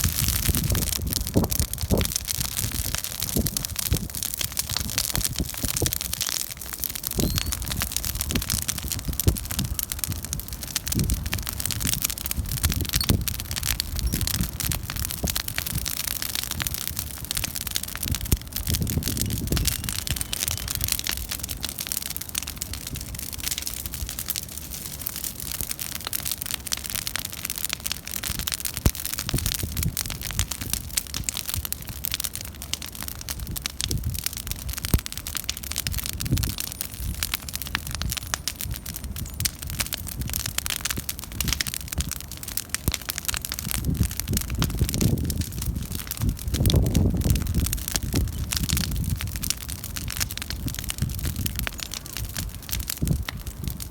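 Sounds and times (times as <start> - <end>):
bonfire crackling and popping: 0.0 - 53.9
low rumble of flames: 0.0 - 53.9.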